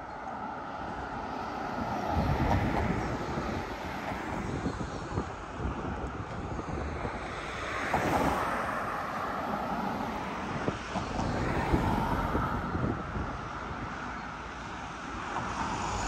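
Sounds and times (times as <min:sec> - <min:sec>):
low wind buffets: 0:00.0 - 0:16.0
road traffic: 0:00.0 - 0:16.0
wind on microphone: 0:00.8 - 0:16.0.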